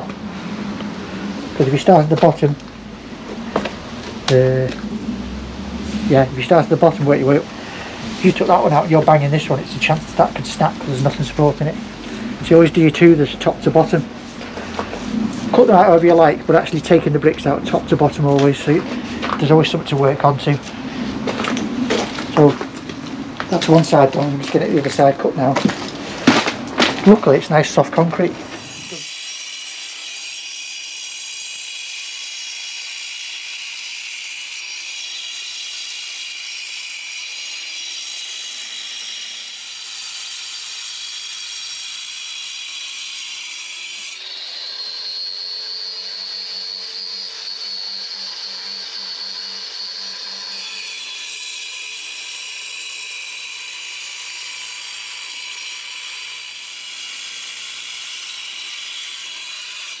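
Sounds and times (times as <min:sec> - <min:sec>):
angle grinder cutting concrete: 0:00.7 - 1:00.0.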